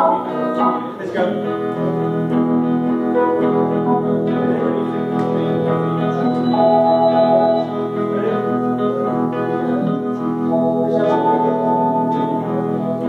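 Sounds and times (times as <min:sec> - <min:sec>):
band with guitars playing chords: 0:00.0 - 0:13.0.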